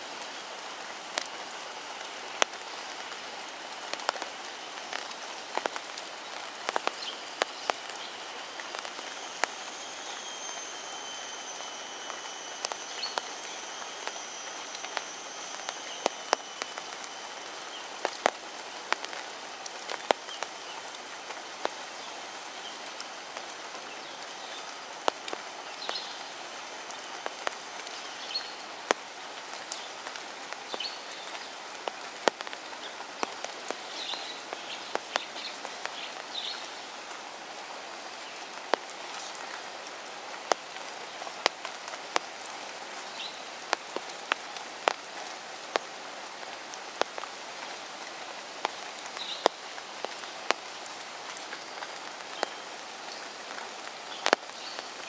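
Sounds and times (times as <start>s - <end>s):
rain falling on river water: 0.0s - 55.0s.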